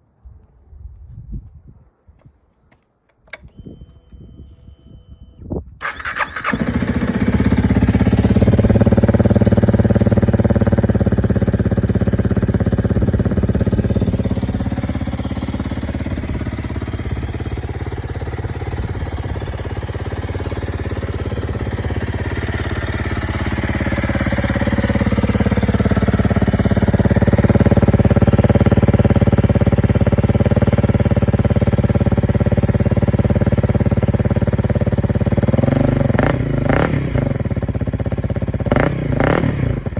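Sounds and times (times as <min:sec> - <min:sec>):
motorcycle engine running: 0:05.8 - 0:39.9.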